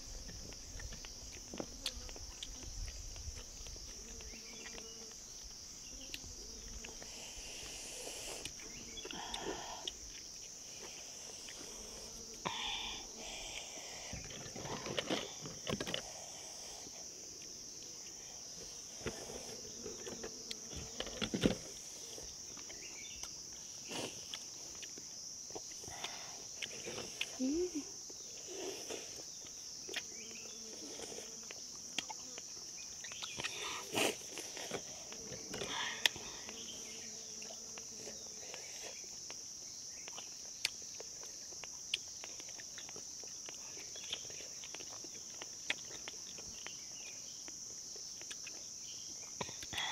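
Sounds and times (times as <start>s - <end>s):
insects chorus: 0.0s - 49.9s.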